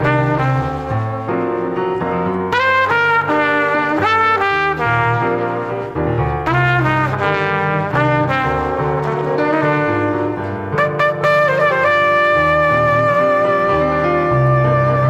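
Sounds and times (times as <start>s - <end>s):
salsa music with brass: 0.0s - 1.8s, 2.5s - 15.0s.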